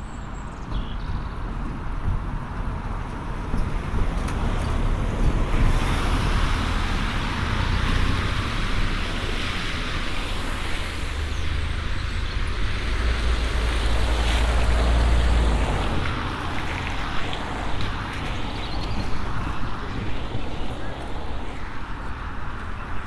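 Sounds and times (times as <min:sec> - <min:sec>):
distant road traffic: 0:00.0 - 0:23.0
wind on microphone: 0:01.0 - 0:23.0.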